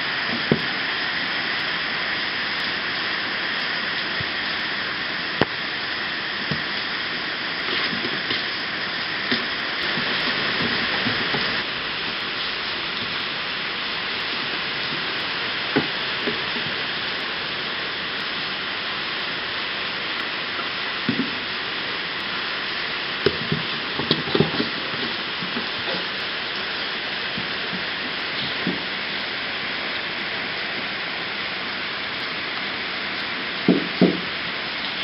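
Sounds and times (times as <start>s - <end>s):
rain hiss: 0.0s - 35.0s.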